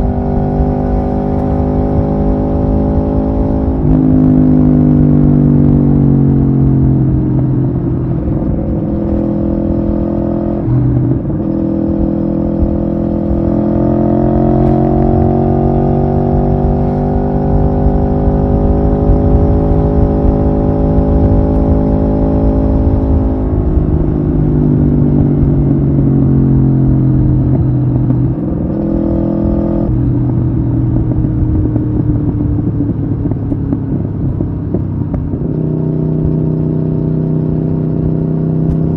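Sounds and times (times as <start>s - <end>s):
low rumble: 0.0s - 38.9s
motorcycle engine running: 0.0s - 38.9s.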